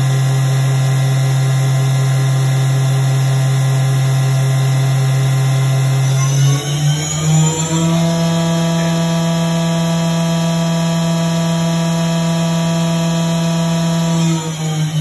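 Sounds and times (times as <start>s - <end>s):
machine spindle whine and hum: 0.0s - 15.0s.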